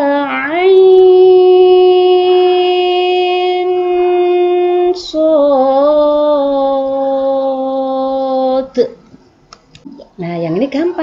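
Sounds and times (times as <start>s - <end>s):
woman chanting melodic recitation: 0.0s - 9.0s.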